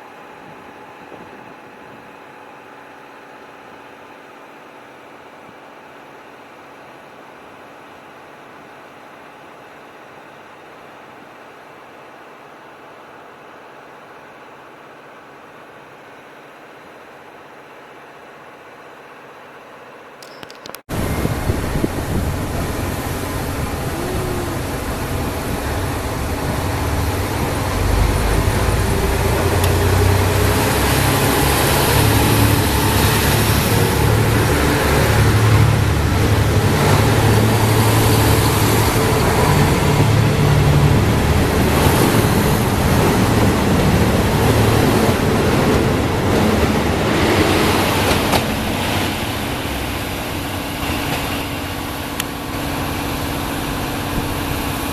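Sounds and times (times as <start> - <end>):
diesel train engine running: 5.8 - 54.9.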